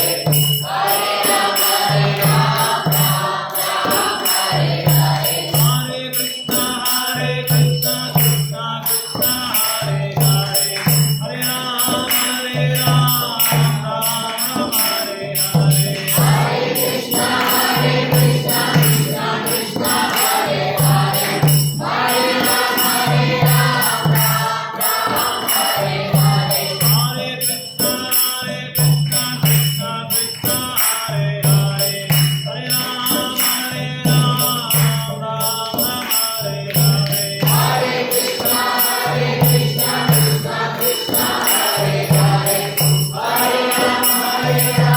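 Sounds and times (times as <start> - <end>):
drum beating: 0.0 - 5.9, 7.4 - 27.3, 34.1 - 44.9
group chanting: 0.0 - 44.9
hand cymbals ringing: 0.0 - 44.9.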